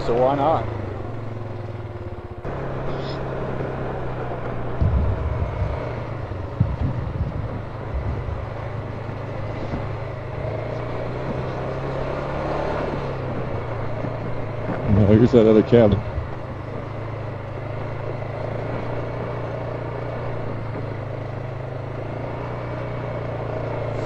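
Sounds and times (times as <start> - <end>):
vehicle engine running: 0.0 - 24.0
vehicle thumps over bumps: 1.2 - 22.2.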